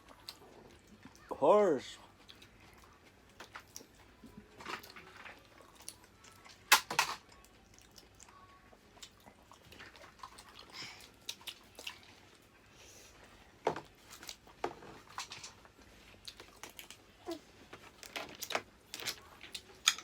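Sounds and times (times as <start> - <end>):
chewing and crunching: 0.0 - 1.3, 2.0 - 20.0.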